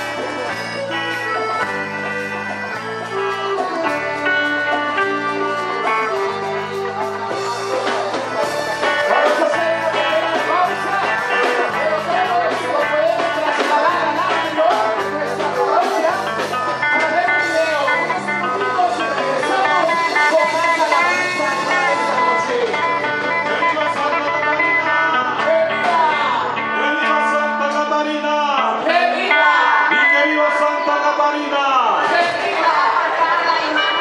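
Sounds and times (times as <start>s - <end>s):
stepping bass line: 0.0s - 27.5s
sliding wavering lead melody: 0.0s - 27.6s
guitar: 0.0s - 34.0s.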